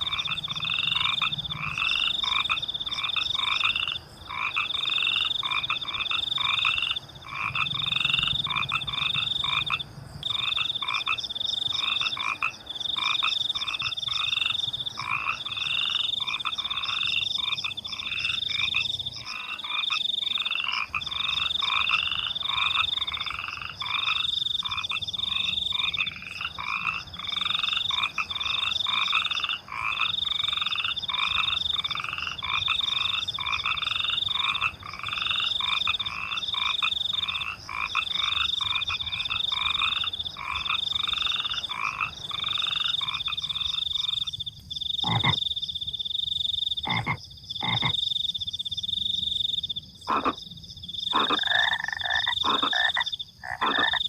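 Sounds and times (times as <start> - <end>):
crickets chirping: 0.0 - 54.0
frogs croaking: 0.0 - 54.0.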